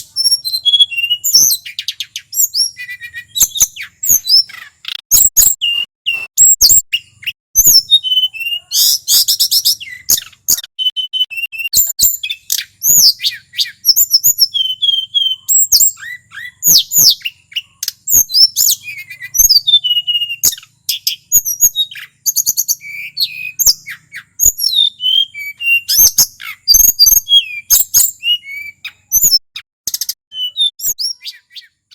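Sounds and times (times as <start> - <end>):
bird singing chirps and trills: 0.0 - 31.9.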